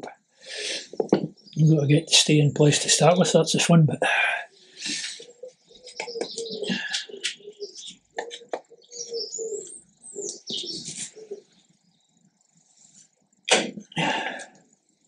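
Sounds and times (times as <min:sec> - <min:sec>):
birds cooing and chirping: 0:00.4 - 0:14.6.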